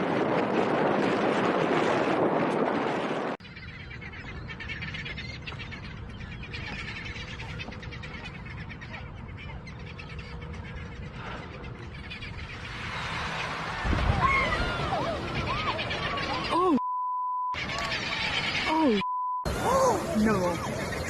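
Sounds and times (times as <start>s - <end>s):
birds chirping: 3.4s - 21.0s.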